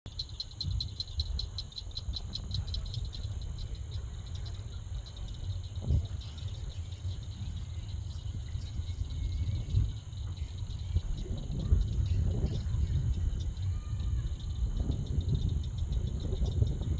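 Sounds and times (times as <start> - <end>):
insects chirping: 0.1 - 16.9
steady low rumbling noise: 0.1 - 16.9.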